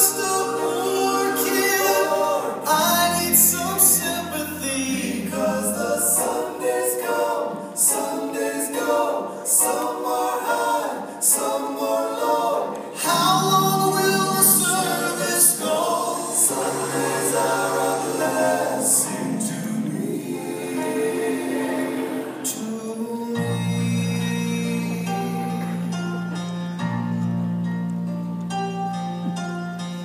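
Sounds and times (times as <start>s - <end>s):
a cappella harmony singing: 0.0s - 26.3s.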